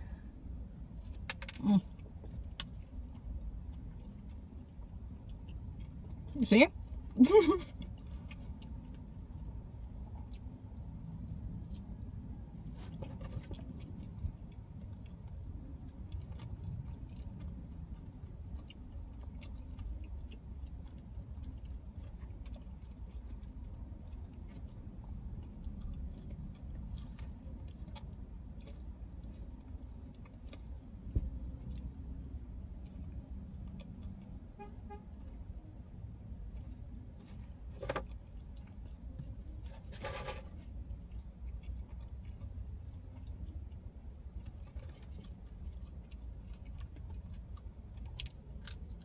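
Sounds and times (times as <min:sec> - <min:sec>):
close-up chewing with crunches: 0:00.0 - 0:49.0
low rumble inside car: 0:00.0 - 0:49.0.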